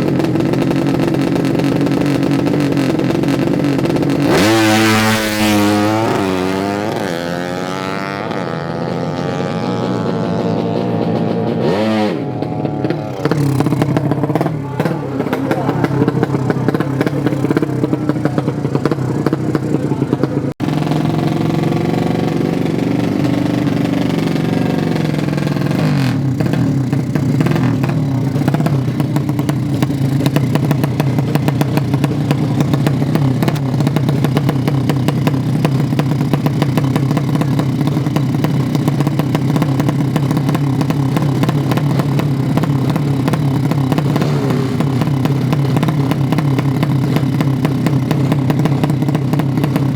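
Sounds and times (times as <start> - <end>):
motorcycle revving loud: 0.0 - 49.9.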